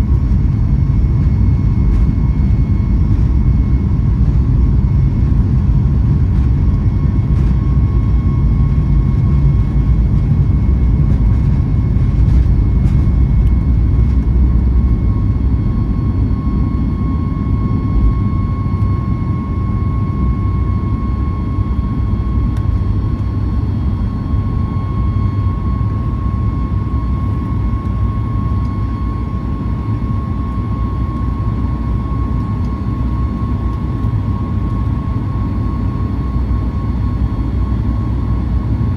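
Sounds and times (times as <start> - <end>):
high engine whine: 0.0 - 38.9
jet engines low rumble: 0.0 - 38.9.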